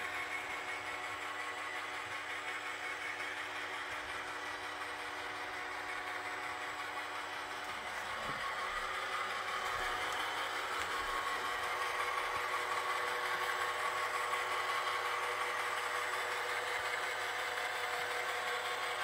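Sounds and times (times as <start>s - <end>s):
robot vacuum motor hum: 0.0s - 19.0s.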